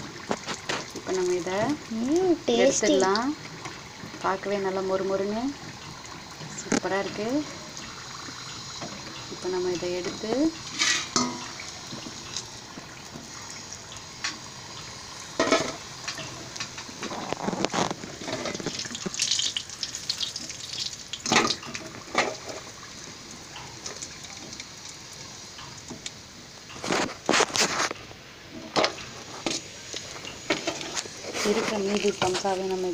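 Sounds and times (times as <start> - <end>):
food sizzling in hot oil: 0.0 - 32.9.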